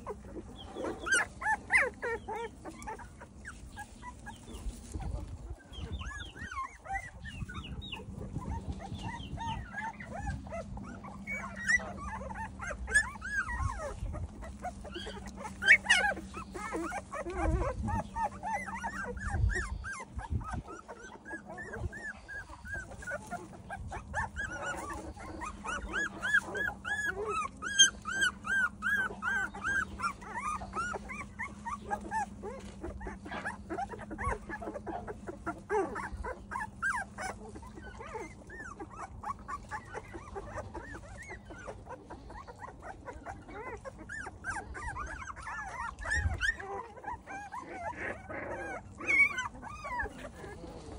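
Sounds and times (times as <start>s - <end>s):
puppies whimpering and squealing: 0.0s - 50.9s.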